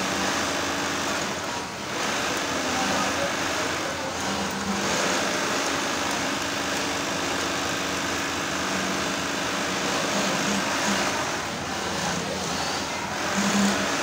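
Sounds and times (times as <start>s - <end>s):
industrial sewing machines running: 0.0s - 14.0s.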